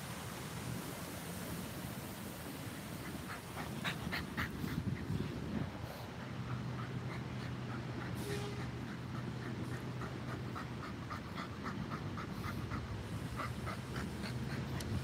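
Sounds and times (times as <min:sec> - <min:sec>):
dog panting: 0:02.9 - 0:15.0.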